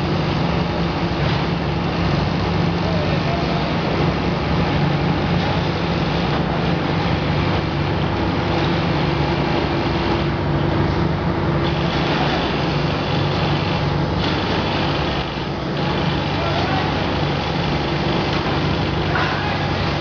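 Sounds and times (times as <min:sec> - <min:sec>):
broad rushing noise: 0:00.0 - 0:20.0
low industrial hum: 0:00.0 - 0:20.0.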